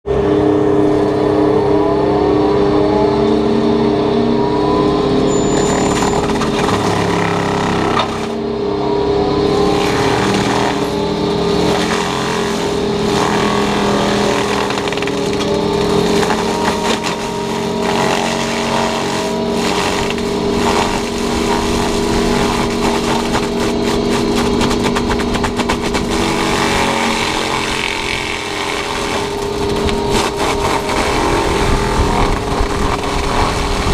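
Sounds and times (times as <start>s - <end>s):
excavator engine: 0.0s - 33.9s
high-pitched hum of mulching head: 0.1s - 33.9s.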